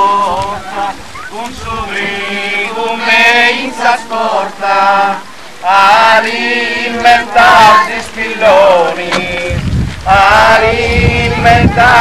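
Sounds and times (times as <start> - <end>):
voices singing a religious chant: 0.0 - 12.0.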